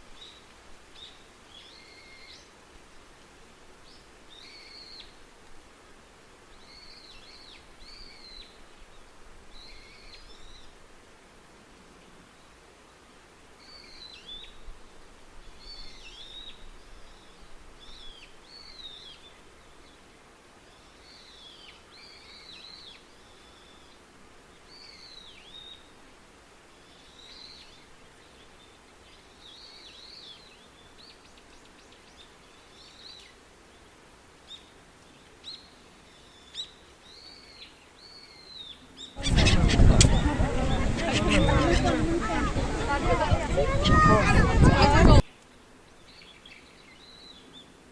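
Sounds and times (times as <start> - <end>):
wild birds chirping: 0.0 - 5.3, 6.3 - 10.9, 11.9 - 47.9
faint background hiss: 0.0 - 47.9.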